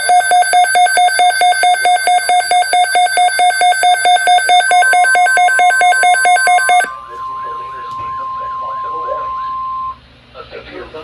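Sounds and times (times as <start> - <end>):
rapid electronic alarm beeping: 0.0 - 10.0
steady high tone: 0.0 - 10.0.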